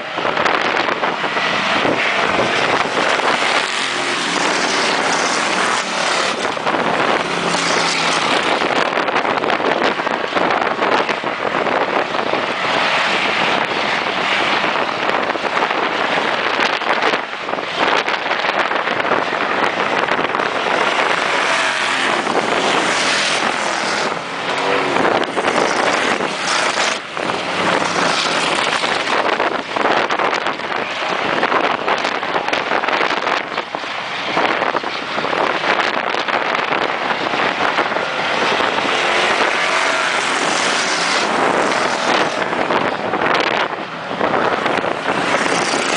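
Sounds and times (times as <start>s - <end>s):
race car engines roaring: 0.0s - 45.9s
wind noise on microphone: 0.0s - 45.9s.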